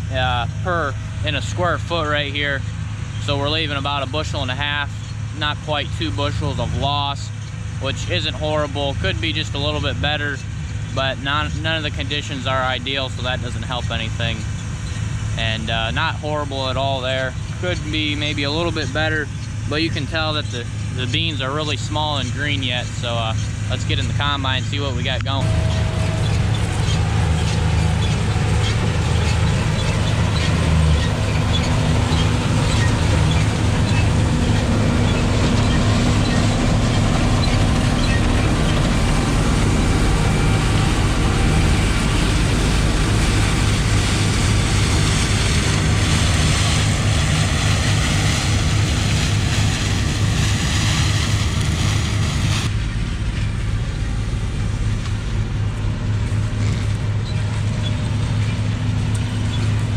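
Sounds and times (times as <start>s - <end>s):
combine diesel drone: 0.0s - 59.9s.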